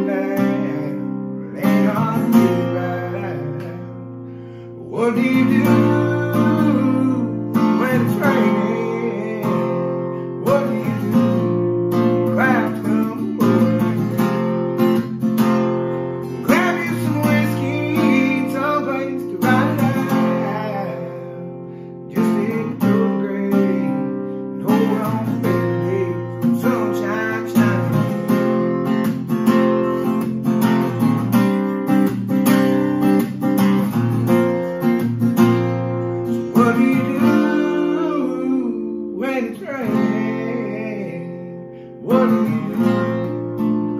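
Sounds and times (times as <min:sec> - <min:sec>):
man singing: 0:00.0 - 0:31.8, 0:34.3 - 0:43.9
strummed acoustic guitar: 0:00.0 - 0:43.9.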